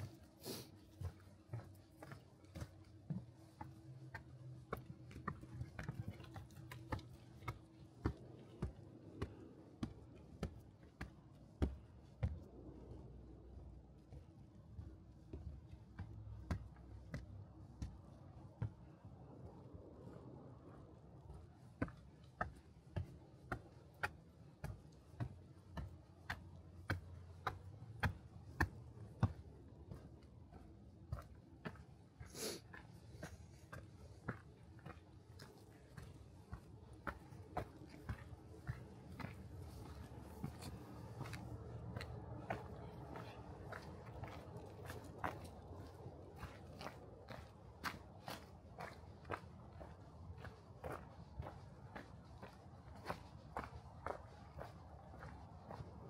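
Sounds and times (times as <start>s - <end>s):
footsteps on forest trail: 0.0s - 56.0s.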